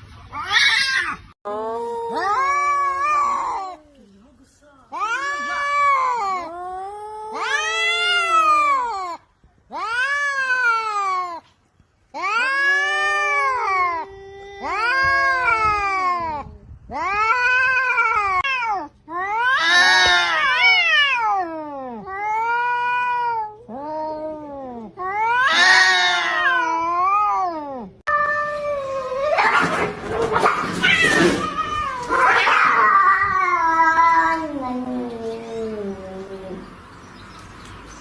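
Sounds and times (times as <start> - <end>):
cats yowling in a fight: 0.3 - 3.8, 5.0 - 11.5, 12.2 - 36.6.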